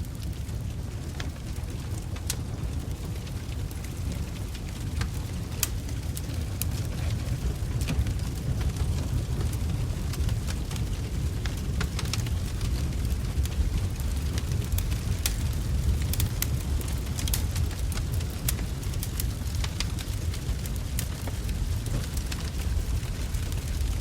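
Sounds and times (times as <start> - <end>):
burning wood crackling and popping: 0.0 - 24.0
flames rushing in fireplace: 0.0 - 24.0.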